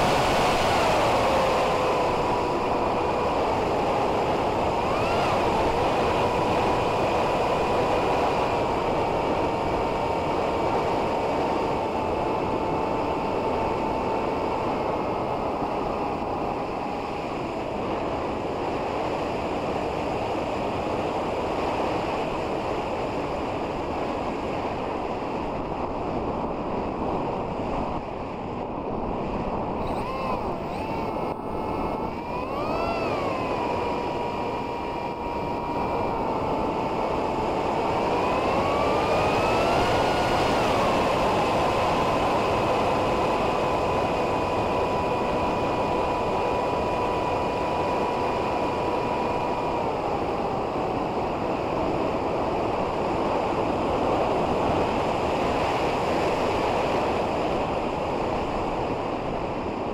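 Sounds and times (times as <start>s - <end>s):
motor and propeller whine: 0.0s - 59.9s
wind rushing over microphone: 0.0s - 59.9s.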